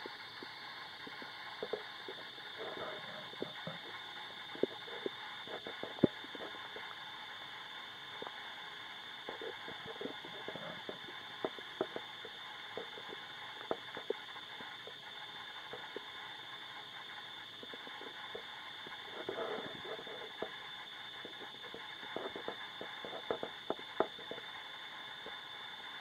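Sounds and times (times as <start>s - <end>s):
faint high whine: 0.0s - 26.0s
recording hiss: 0.0s - 26.0s
stomach gurgling: 0.0s - 26.0s.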